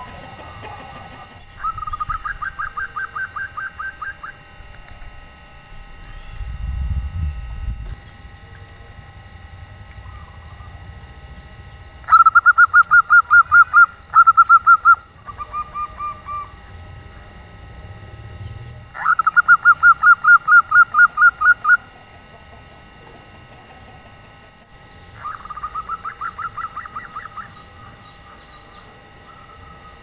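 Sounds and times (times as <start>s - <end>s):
dove trilled calls: 0.0s - 5.0s, 8.0s - 30.0s.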